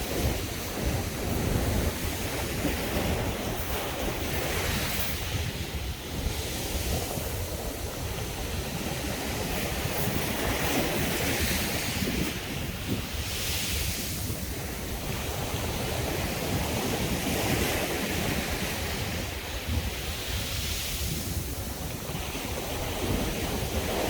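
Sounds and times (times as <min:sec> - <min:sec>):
sea surf breaking on beach: 0:00.0 - 0:24.0
wind buffeting microphone: 0:00.0 - 0:24.0.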